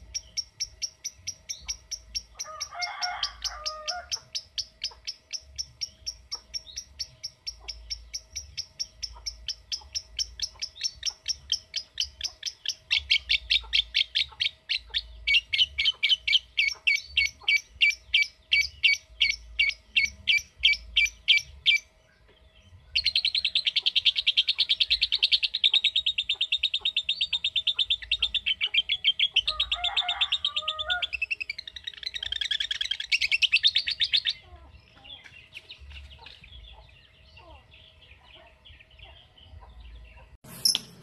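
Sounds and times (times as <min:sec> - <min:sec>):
bird chattering trill: 0:00.0 - 0:21.9, 0:23.0 - 0:41.0
bird chipping calls: 0:00.0 - 0:22.4, 0:23.0 - 0:41.0.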